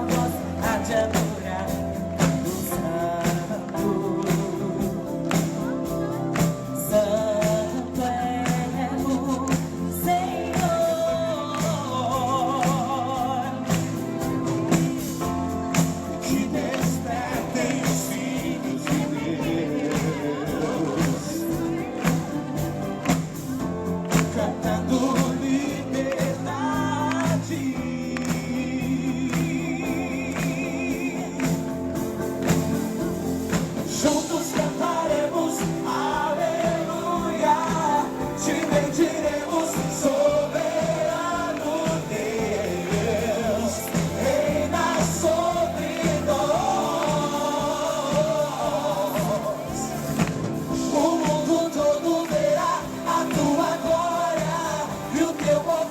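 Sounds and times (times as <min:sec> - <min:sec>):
band with drums playing: 0:00.0 - 0:55.9
people singing: 0:00.0 - 0:55.9.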